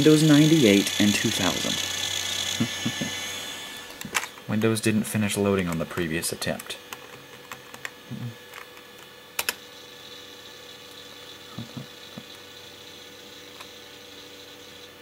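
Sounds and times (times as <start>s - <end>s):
computer hum and whine: 0.0s - 15.0s.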